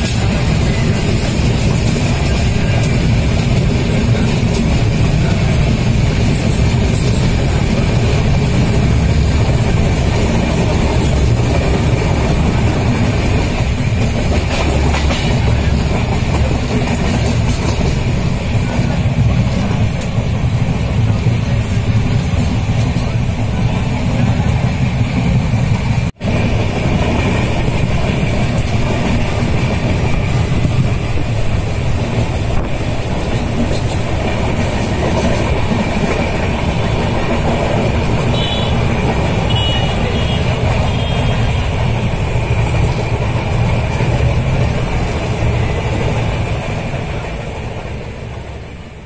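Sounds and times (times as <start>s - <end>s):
train wheels on rails: 0.0s - 49.0s.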